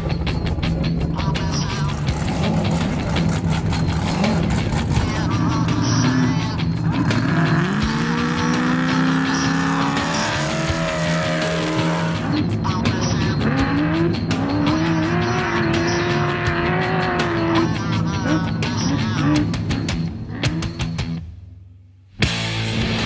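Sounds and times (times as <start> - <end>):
race car engine revving: 0.0 - 21.2
music playing: 0.0 - 21.3, 22.2 - 23.0.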